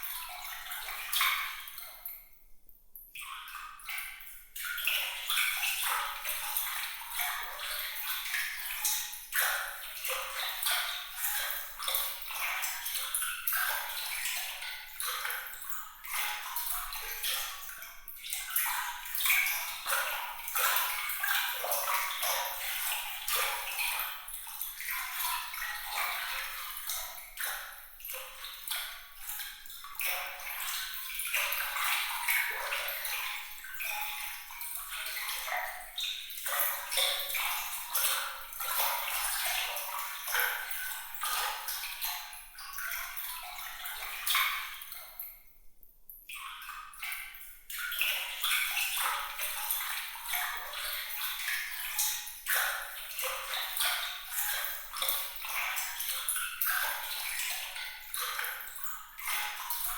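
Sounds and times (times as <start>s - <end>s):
small water splashes and drips: 0.0s - 59.9s.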